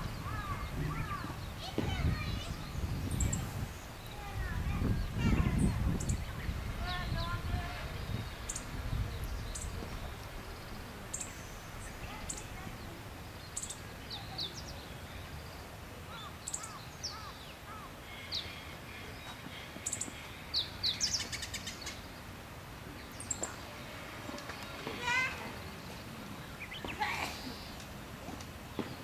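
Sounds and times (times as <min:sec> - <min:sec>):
outdoor background noise: 0:00.0 - 0:29.0
songbirds chirping and whistling: 0:00.0 - 0:29.0.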